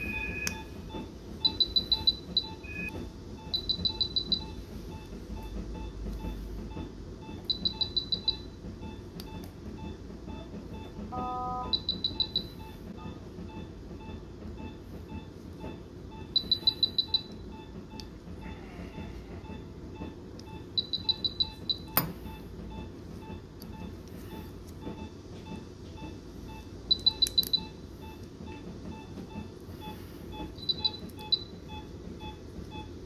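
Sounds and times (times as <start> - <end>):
monitor pulse tone: 0.0 - 33.0
rapid high-pitched alarm beeps: 0.0 - 33.0.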